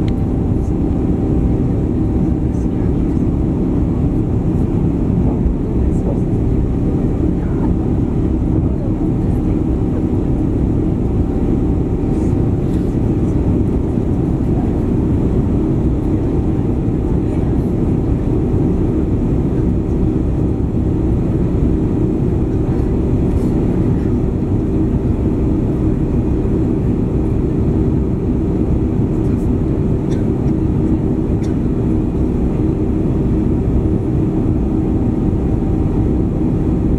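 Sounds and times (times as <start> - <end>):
jet engine cabin noise: 0.0 - 36.9.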